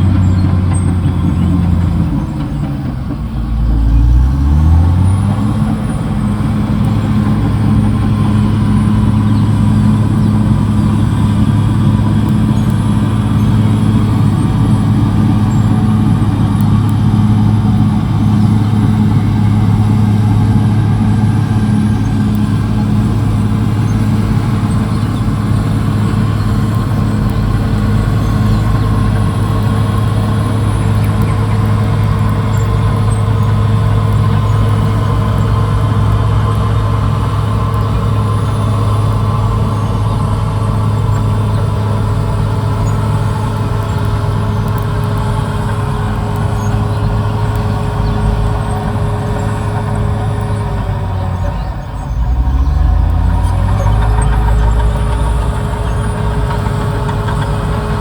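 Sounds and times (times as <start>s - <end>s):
diesel engine running steadily: 0.0s - 58.0s.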